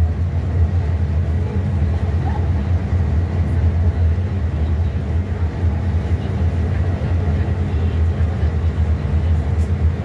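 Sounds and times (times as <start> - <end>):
bus engine drone from inside: 0.0 - 10.0.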